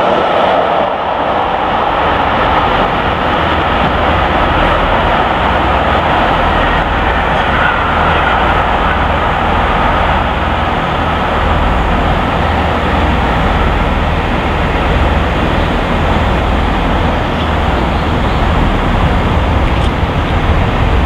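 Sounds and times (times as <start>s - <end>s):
steam train rumbling: 0.0s - 21.0s.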